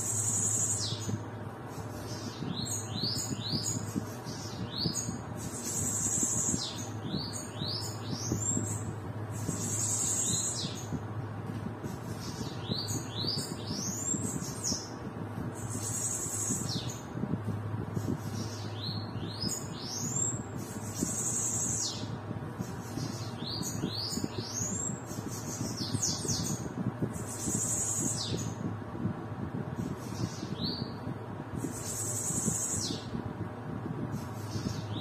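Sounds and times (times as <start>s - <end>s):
birds singing buzzy trills: 0.0s - 35.0s
low steady hum: 0.0s - 35.0s.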